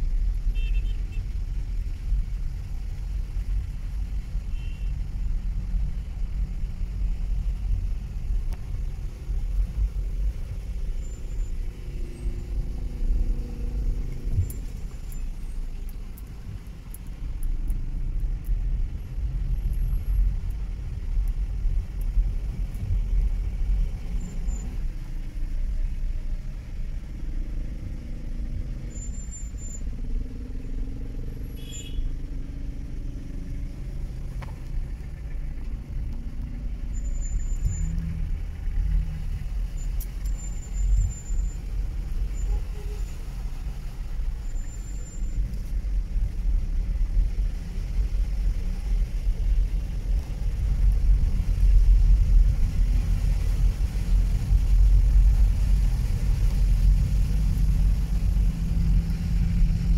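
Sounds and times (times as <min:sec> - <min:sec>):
car engine and tyres in water: 0:00.0 - 0:59.9
surrounding traffic: 0:00.0 - 0:59.9.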